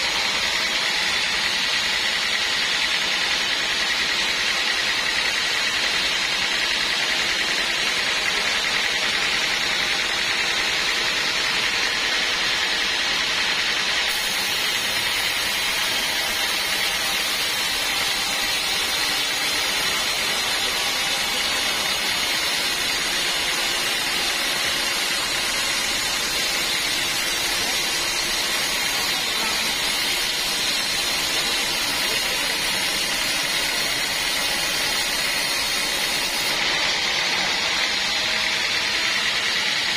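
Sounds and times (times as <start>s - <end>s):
band saw whining: 0.0s - 39.9s.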